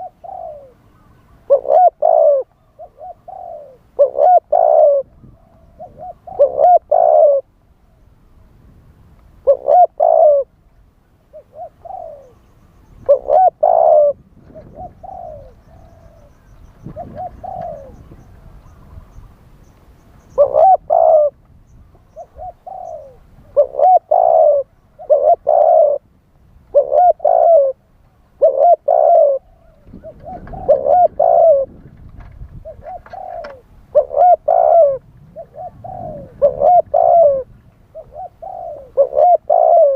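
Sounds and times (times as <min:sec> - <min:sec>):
dove cooing: 0:00.0 - 0:07.5, 0:09.4 - 0:10.6, 0:11.2 - 0:19.3, 0:20.2 - 0:26.1, 0:26.7 - 0:39.9.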